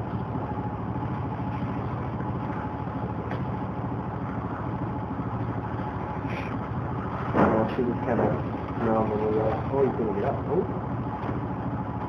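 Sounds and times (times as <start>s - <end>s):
motor humming with fast pulse: 0.0s - 12.0s.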